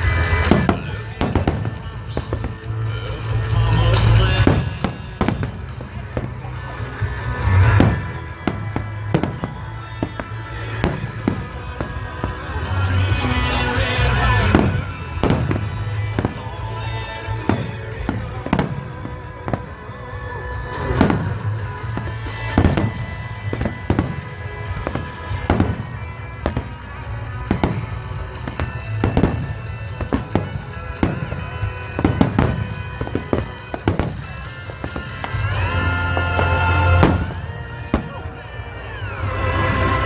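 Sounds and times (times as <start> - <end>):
music playing: 0.0 - 40.0.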